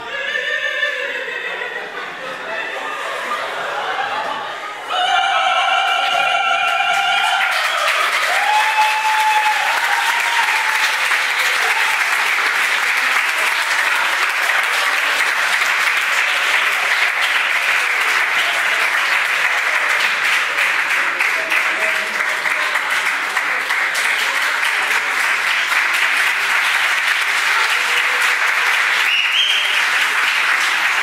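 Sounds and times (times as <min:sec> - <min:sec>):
audience applauding: 0:04.9 - 0:31.0.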